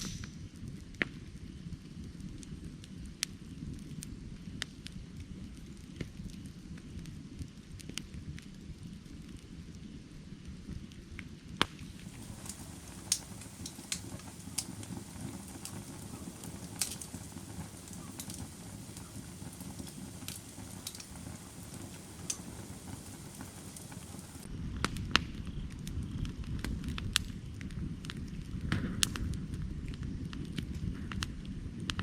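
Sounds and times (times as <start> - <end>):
firewood crackling and popping: 0.0 - 32.0
low rush of flame: 0.0 - 32.0.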